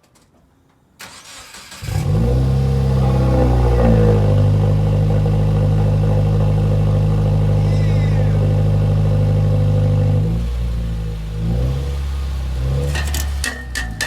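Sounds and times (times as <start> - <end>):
car engine starting and idling: 1.0 - 14.0.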